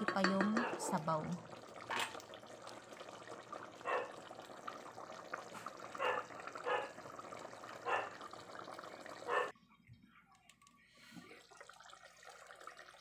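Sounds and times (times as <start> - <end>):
sauce bubbling in a pot: 0.0 - 9.5, 10.6 - 13.0.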